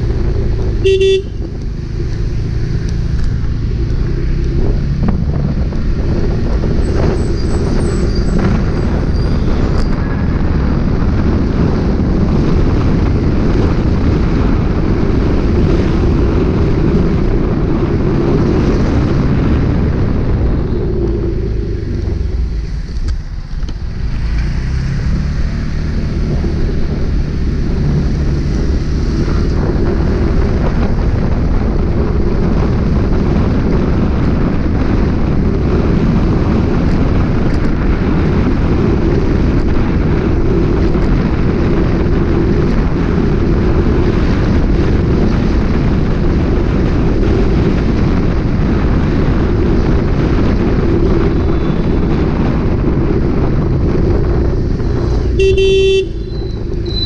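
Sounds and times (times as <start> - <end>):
vehicle engine and road noise: 0.0 - 57.0
wind rush on microphone: 0.0 - 57.0.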